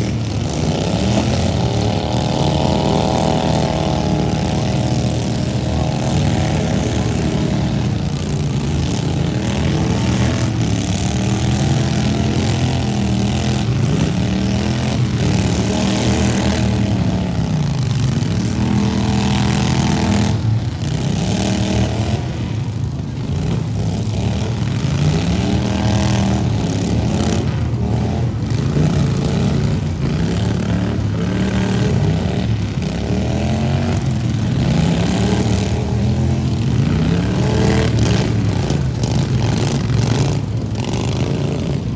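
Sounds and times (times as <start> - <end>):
lawn mower engines revving: 0.0 - 41.9.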